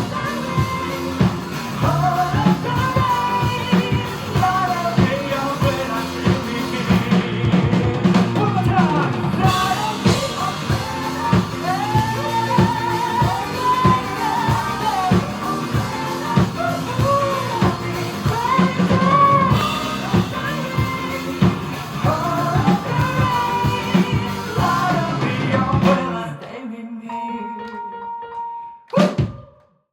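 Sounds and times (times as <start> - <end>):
drum kit: 0.0 - 26.3
live pop-rock band: 0.0 - 26.6
person singing: 0.0 - 29.6.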